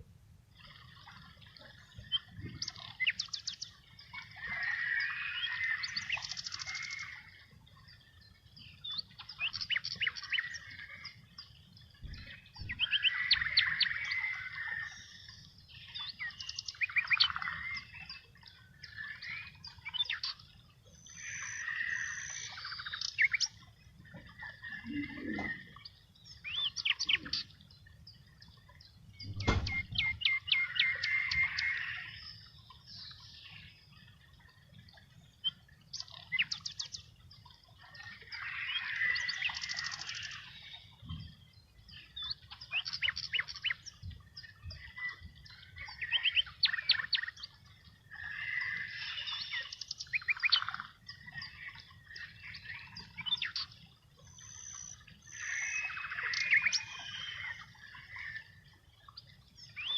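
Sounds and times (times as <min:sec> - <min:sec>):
birds chirping and trilling: 0:00.5 - 0:59.9.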